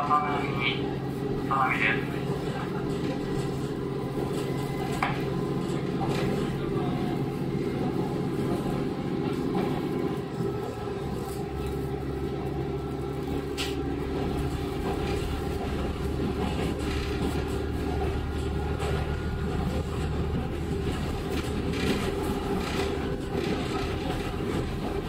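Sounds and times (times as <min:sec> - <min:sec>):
diesel engine drone: 0:00.0 - 0:25.0
wheels rumbling on rail: 0:00.0 - 0:25.0.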